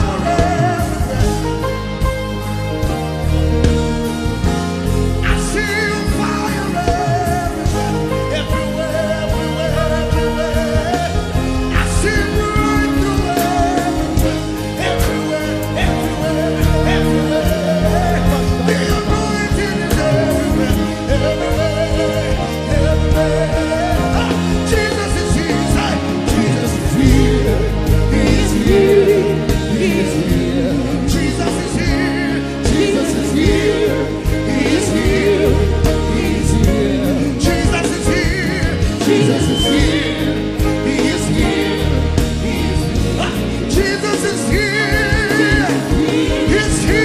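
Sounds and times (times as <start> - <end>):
band with strong bass line: 0.0 - 47.0
gospel singing: 0.0 - 47.0.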